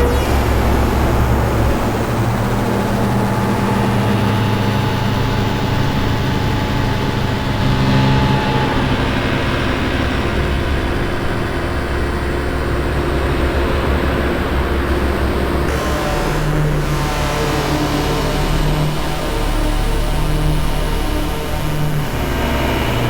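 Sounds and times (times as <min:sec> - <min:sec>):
synthesizer drone: 0:00.0 - 0:23.0.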